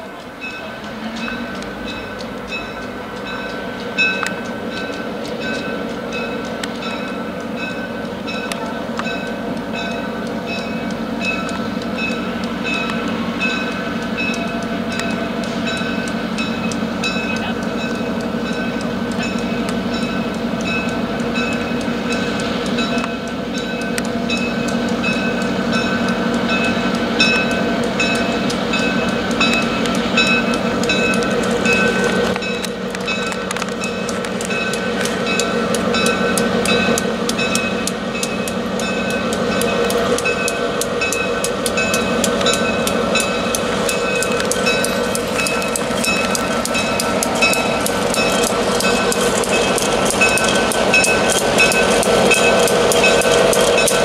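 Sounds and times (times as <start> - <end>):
diesel locomotive engine: 0.0 - 54.0
high ringing bell: 0.4 - 54.0.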